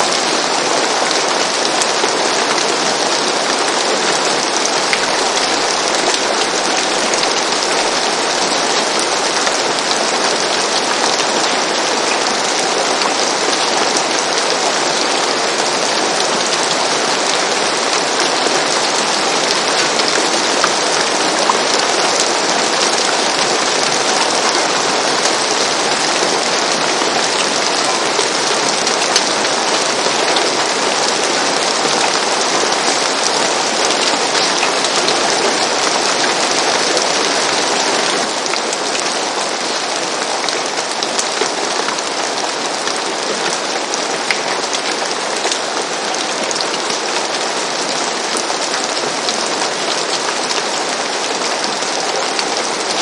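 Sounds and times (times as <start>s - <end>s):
rain falling on a roof: 0.0s - 53.0s.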